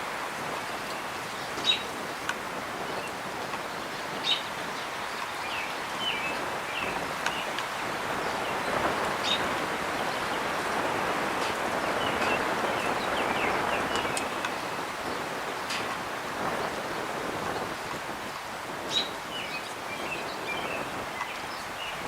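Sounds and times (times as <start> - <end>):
breeze rushing through branches: 0.0 - 22.0
small birds chirping: 0.9 - 2.0, 2.8 - 15.8, 16.6 - 22.0.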